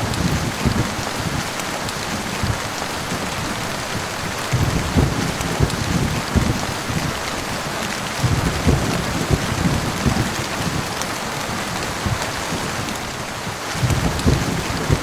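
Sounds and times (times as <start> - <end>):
heavy rain falling: 0.0 - 15.0
low thunder rumbles: 0.0 - 15.0.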